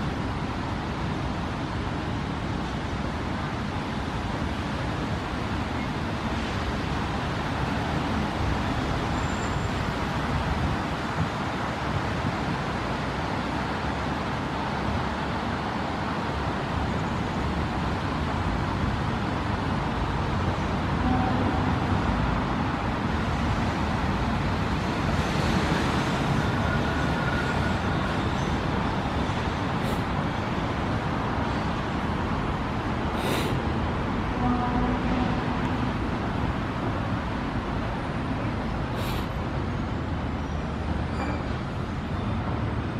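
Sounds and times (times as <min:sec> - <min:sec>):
city background rumble and hiss: 0:00.0 - 0:42.9.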